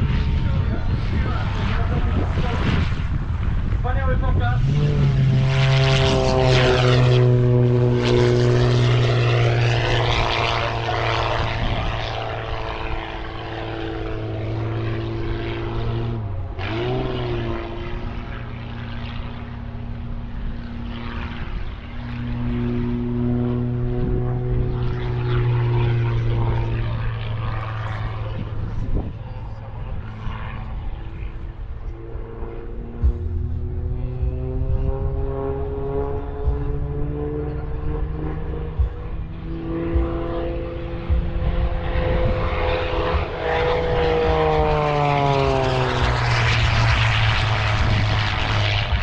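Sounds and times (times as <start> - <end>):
propeller airplane engine droning: 0.0 - 49.0.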